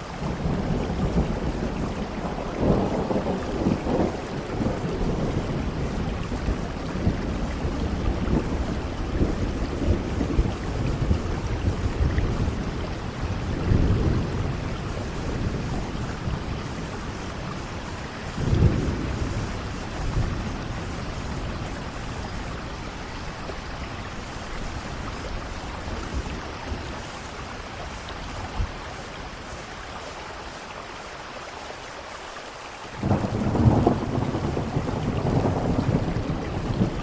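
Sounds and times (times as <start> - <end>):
steady rain: 0.0 - 37.0
thunder rumbling: 0.2 - 29.8, 33.0 - 37.0.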